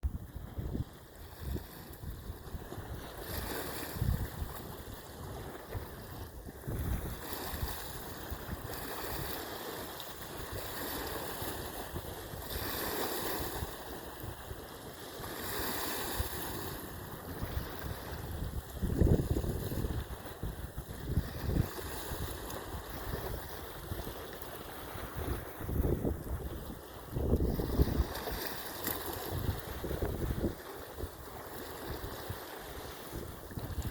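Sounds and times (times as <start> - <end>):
wind and water rushing: 0.0 - 33.9
wind buffeting microphone: 0.0 - 33.9.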